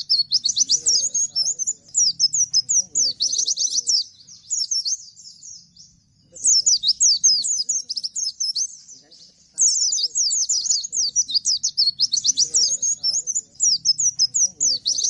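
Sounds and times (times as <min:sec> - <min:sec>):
white-eye bird singing rapid chirps: 0:00.0 - 0:15.0.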